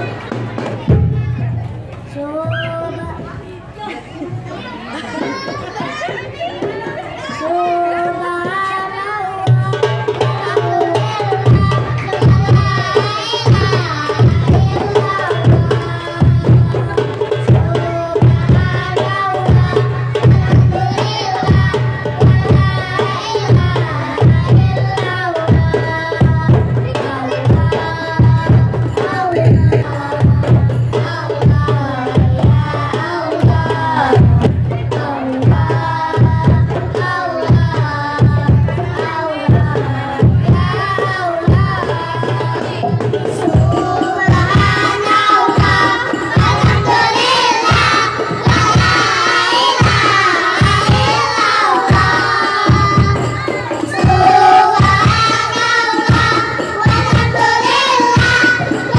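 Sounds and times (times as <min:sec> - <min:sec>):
children singing into microphones: 0:00.0 - 0:58.9
hand-struck frame drums: 0:09.5 - 0:58.9
bass drum: 0:11.1 - 0:58.9.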